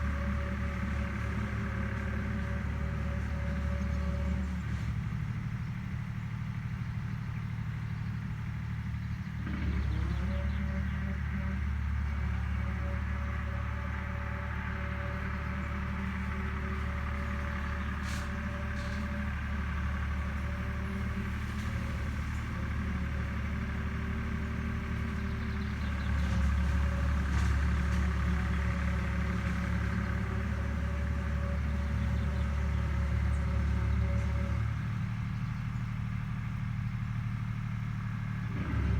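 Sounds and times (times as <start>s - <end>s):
machine engine droning: 0.0s - 38.9s.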